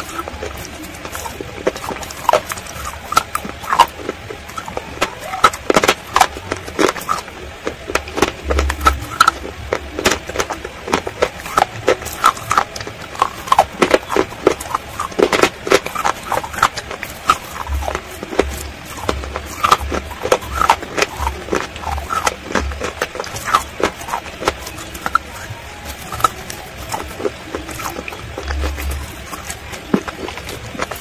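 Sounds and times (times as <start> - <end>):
crunching and chewing: 0.0 - 31.0.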